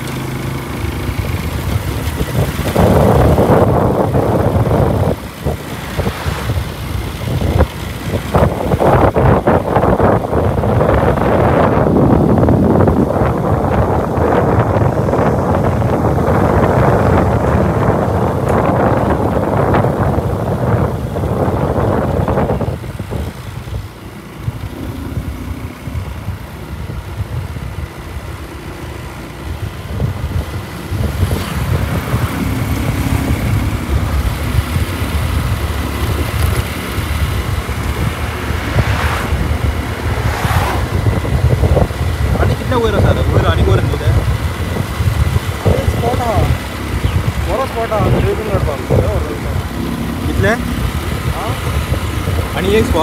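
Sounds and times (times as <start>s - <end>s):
motorcycle engine rumble: 0.0s - 53.0s
road rumble: 0.0s - 53.0s
wind buffeting microphone: 0.0s - 53.0s.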